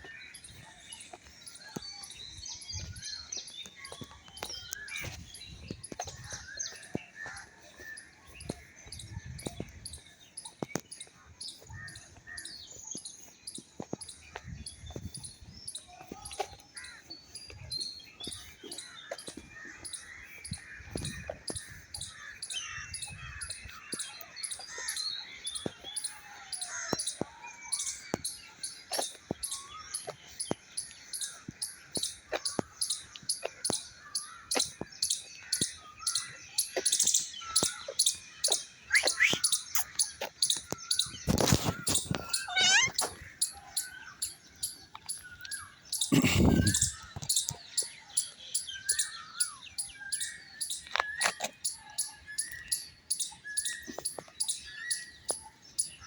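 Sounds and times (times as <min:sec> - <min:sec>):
birds chirping and calling: 0:00.0 - 0:56.0
footsteps on a trail: 0:00.0 - 0:56.0.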